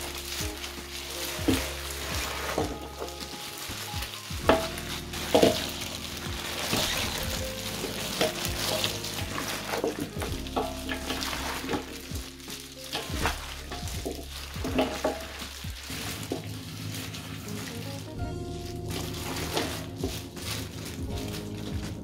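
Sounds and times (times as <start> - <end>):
food stirred in a bowl: 0.0 - 22.0
quiet background music: 0.0 - 22.0.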